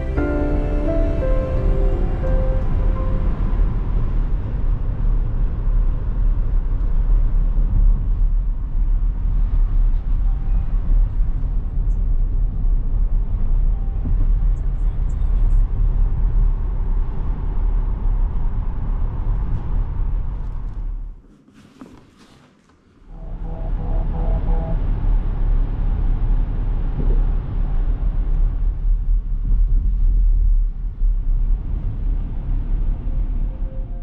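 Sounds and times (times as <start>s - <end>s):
car engine rumble: 0.0s - 21.2s, 23.1s - 34.0s
road noise: 0.0s - 21.2s, 23.1s - 34.0s.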